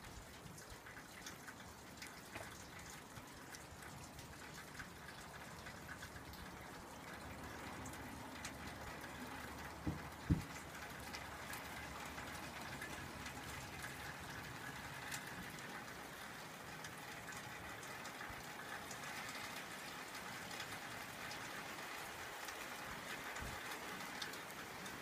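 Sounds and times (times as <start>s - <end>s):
faint steady rain: 0.0s - 25.0s.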